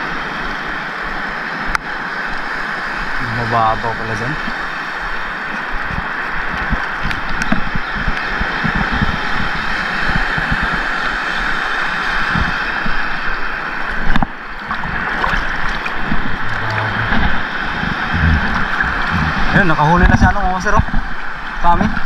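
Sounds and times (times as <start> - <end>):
sea water sloshing and splashing: 0.0 - 22.0
wind rumble on microphone: 0.0 - 22.0.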